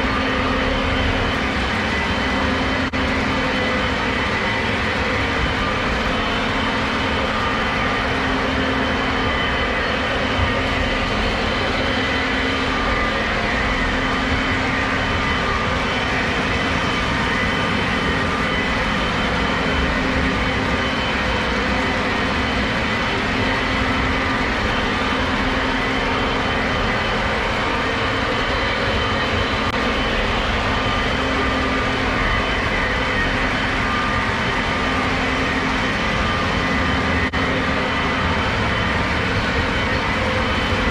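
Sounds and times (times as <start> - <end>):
constant hum: 0.0 - 40.9.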